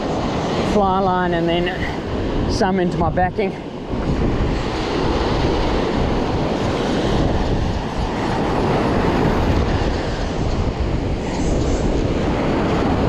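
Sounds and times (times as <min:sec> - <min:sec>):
surf rushing: 0:00.0 - 0:13.0
wind on microphone: 0:00.0 - 0:13.0.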